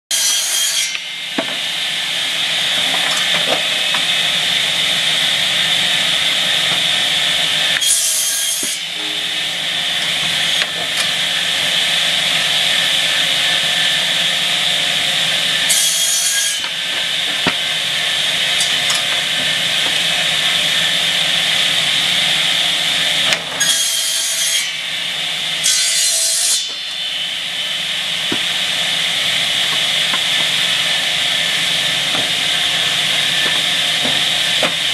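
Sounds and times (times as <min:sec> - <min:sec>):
saw blades cutting wood: 0:00.1 - 0:34.9
circular saw humming: 0:00.9 - 0:23.2, 0:26.6 - 0:34.9.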